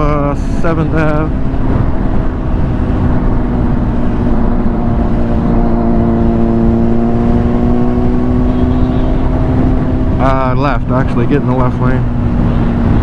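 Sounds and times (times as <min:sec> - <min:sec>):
motorcycle engine running: 0:00.0 - 0:13.0
road noise: 0:00.0 - 0:13.0
wind noise: 0:00.0 - 0:13.0.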